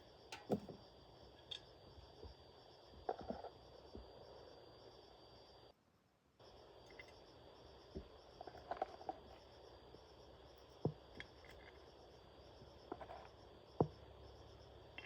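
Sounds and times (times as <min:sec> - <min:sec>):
insects chirring: 0:00.0 - 0:05.8, 0:06.4 - 0:15.0.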